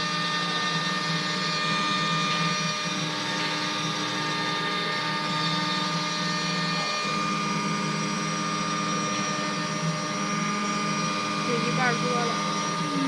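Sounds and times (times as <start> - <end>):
engraving machine spindle whine: 0.0 - 13.0.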